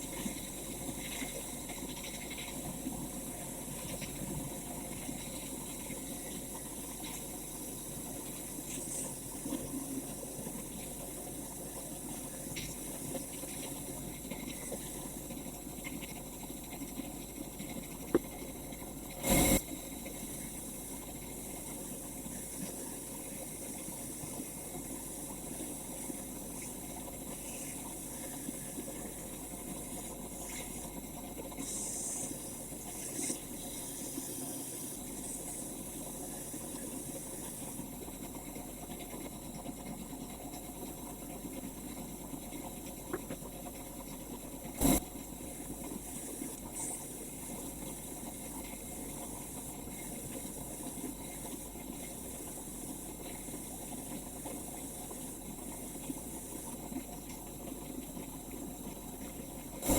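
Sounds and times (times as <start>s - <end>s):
steady hissing noise: 0.0s - 59.9s.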